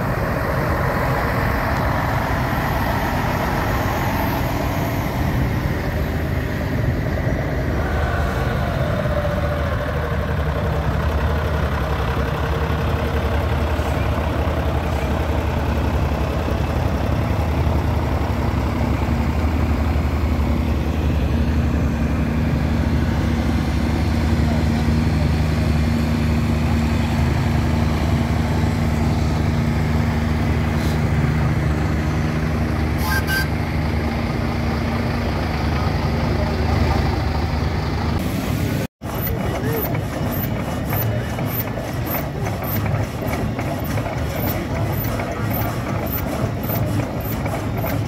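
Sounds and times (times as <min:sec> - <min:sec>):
heavy vehicle engine running: 0:00.0 - 0:48.0.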